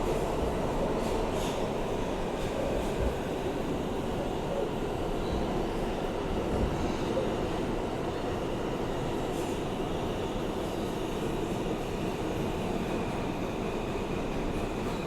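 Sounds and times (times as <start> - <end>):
subway car wheels rumbling on rail: 0.0 - 15.0.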